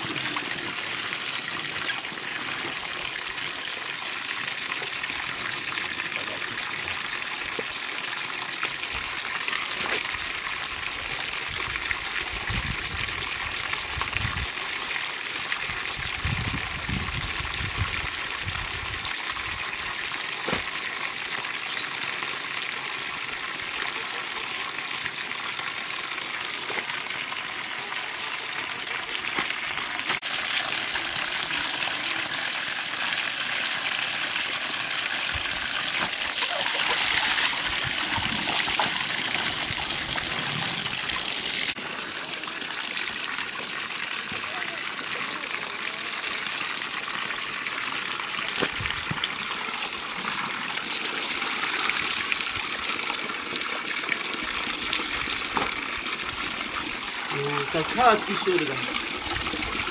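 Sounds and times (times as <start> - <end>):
tap water pouring into bucket: 0.0 - 59.9.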